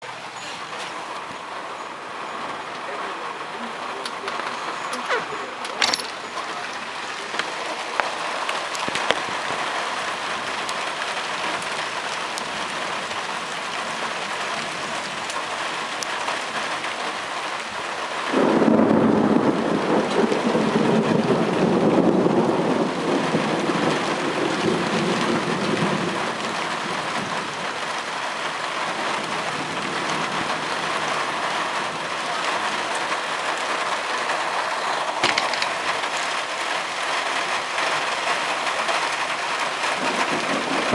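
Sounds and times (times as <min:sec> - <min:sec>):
heavy rain falling: 0:00.0 - 0:40.9
thunder clap rumbling: 0:03.4 - 0:40.9.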